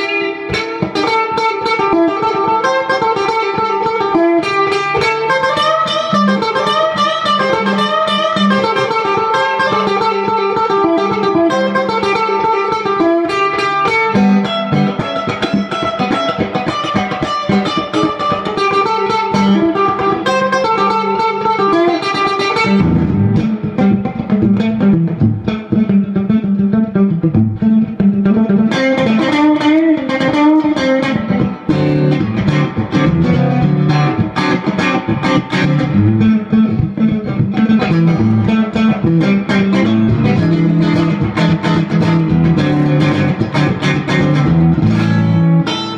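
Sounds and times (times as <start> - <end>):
electric guitar single-note lines: 0.0 - 45.9.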